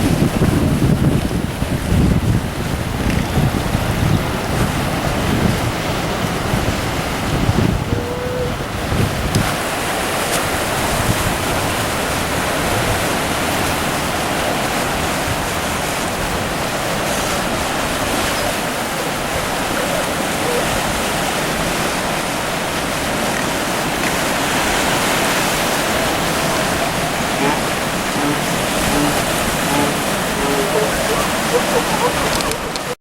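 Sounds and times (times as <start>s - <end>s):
ocean surf on beach: 0.0s - 33.0s.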